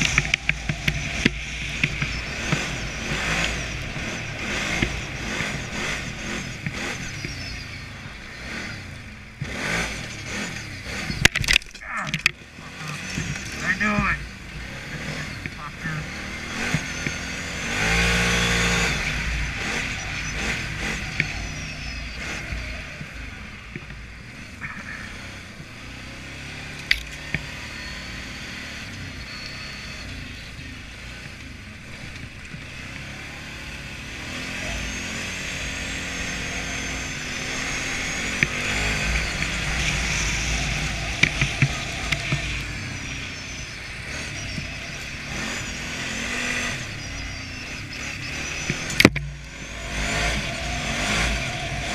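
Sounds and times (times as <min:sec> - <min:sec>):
quad engine revving: 0:00.0 - 0:51.9.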